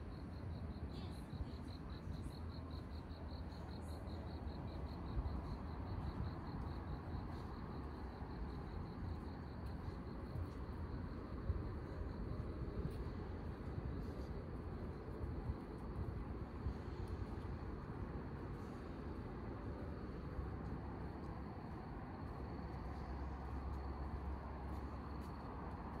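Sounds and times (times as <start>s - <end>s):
low rumble of city noise: 0.0s - 26.0s.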